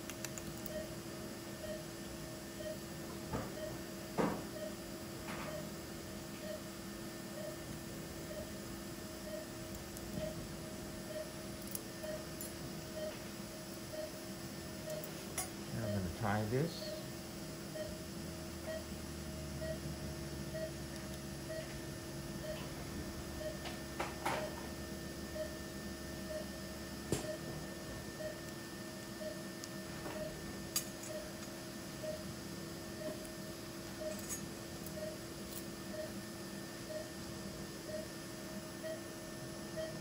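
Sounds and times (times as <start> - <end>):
equipment hum: 0.0 - 40.0
patient monitor beeping: 0.3 - 1.9, 2.5 - 2.9, 3.5 - 5.8, 6.4 - 17.2, 17.8 - 18.0, 18.6 - 18.9, 19.6 - 19.9, 20.5 - 21.8, 22.4 - 22.8, 23.4 - 30.4, 31.0 - 32.3, 32.9 - 33.3, 33.9 - 40.0.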